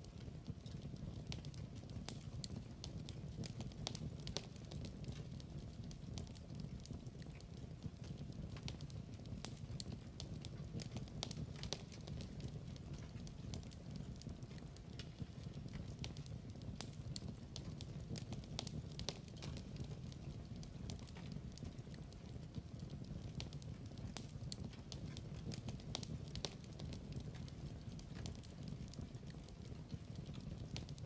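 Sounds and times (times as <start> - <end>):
log fire crackling and popping: 0.0 - 31.0
low rumble of burning: 0.0 - 31.0.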